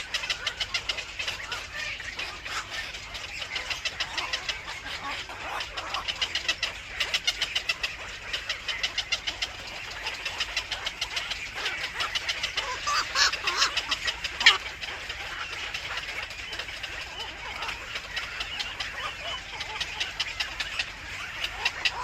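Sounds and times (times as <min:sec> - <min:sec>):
louder bird calls: 0:00.0 - 0:22.0
small birds chirping: 0:00.0 - 0:22.0.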